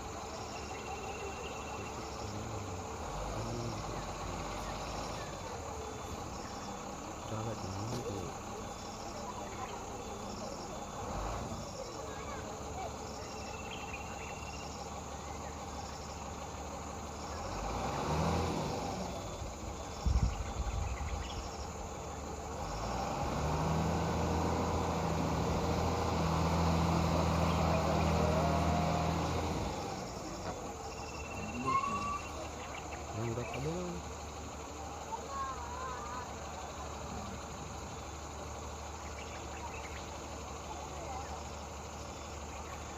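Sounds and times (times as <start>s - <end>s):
insects chirping: 0.0s - 42.9s
vehicle engine passing: 0.0s - 42.9s.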